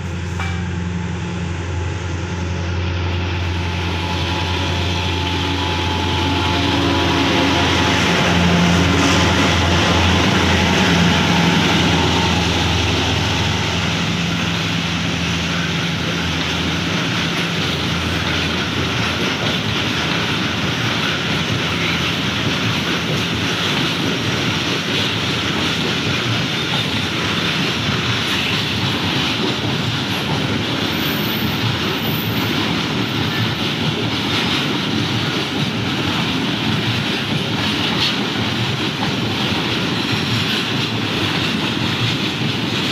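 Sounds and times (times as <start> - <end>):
locomotive engine hum: 0.0 - 42.9
train wheels on rails: 0.0 - 42.9.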